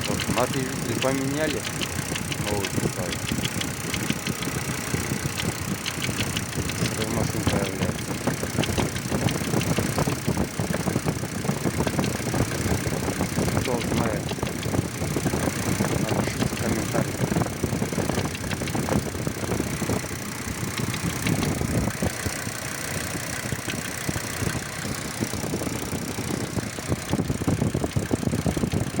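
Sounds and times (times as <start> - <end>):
engine idling: 0.0 - 29.0
engine knocking: 0.0 - 29.0.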